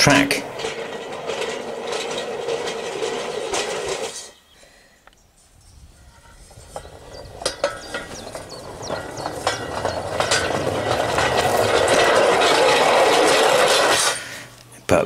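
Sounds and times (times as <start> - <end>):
steel wheels rolling on rails: 0.0 - 4.5, 5.4 - 15.0.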